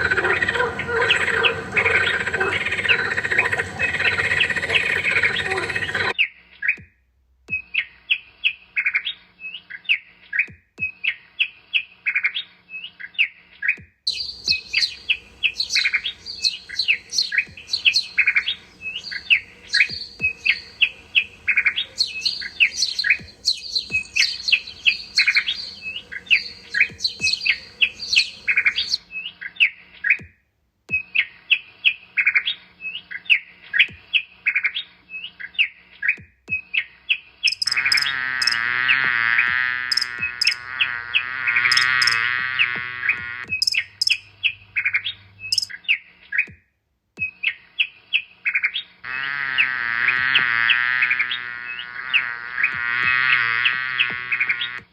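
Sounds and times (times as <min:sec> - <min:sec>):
small birds chirping: 0:00.0 - 0:06.9, 0:07.5 - 0:46.6, 0:47.2 - 0:54.9.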